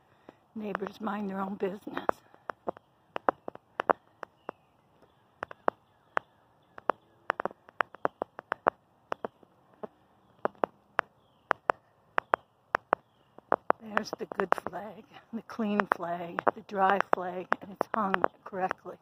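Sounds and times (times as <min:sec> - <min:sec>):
footsteps on asphalt: 0:00.0 - 0:19.0.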